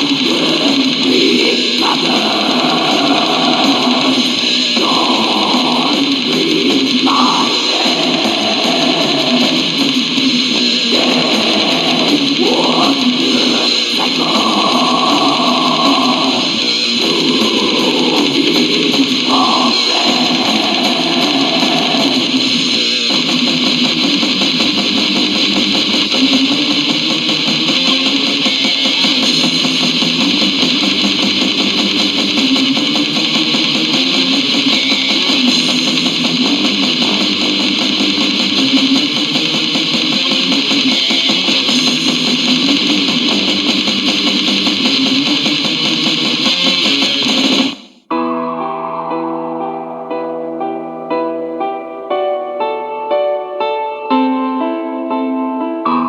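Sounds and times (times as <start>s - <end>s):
metal music with electric guitars: 0.0s - 56.0s.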